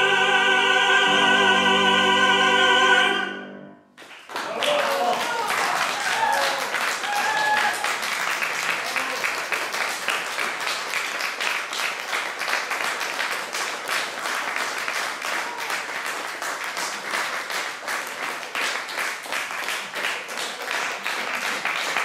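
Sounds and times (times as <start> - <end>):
audience applauding: 4.0 - 22.0.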